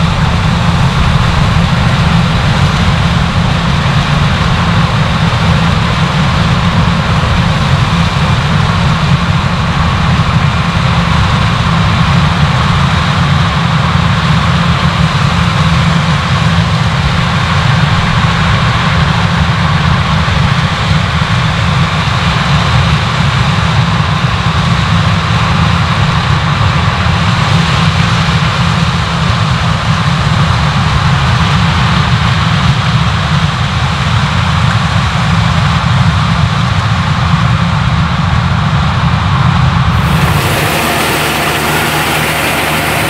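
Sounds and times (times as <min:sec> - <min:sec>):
diesel machinery engine drone: 0:00.0 - 0:32.8, 0:36.9 - 0:43.0
continuous mechanical rush: 0:00.0 - 0:43.0.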